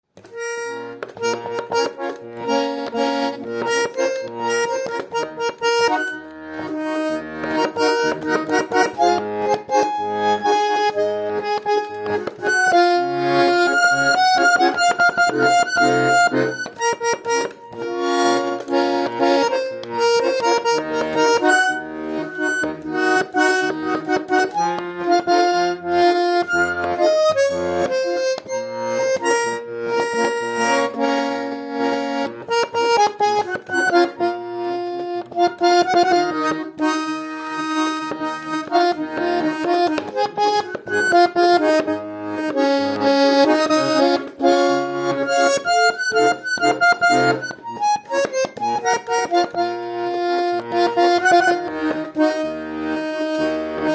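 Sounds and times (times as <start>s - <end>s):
button accordion playing: 0.1s - 53.9s.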